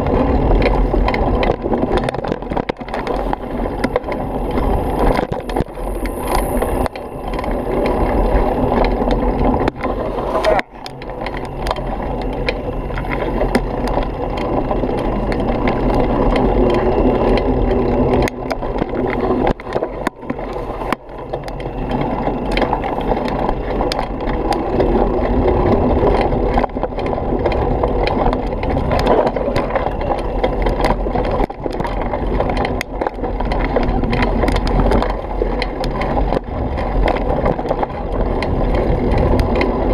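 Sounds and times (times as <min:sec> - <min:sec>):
bike clattering and rattling: 0:00.0 - 0:39.9
tyre and wind rush: 0:00.0 - 0:39.9.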